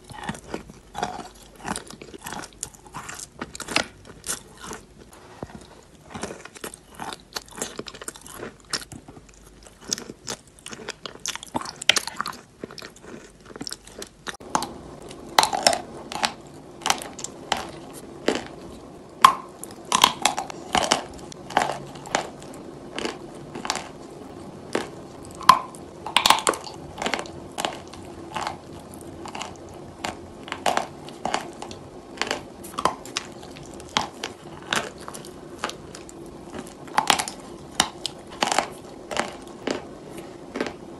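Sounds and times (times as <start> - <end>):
crunchy bites and wet chewing: 0.0 - 40.9.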